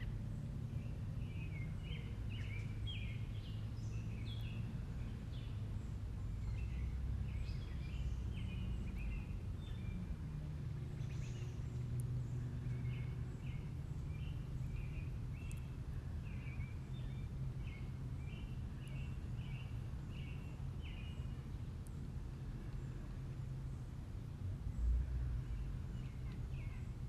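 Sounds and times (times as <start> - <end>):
bird chirping: 0.0 - 10.2, 10.8 - 22.0, 24.7 - 27.0.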